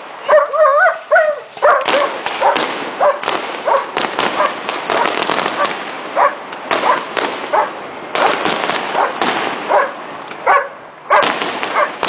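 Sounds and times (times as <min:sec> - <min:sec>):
dog barking: 0:00.2 - 0:12.0
fireworks banging and crackling: 0:01.5 - 0:12.0.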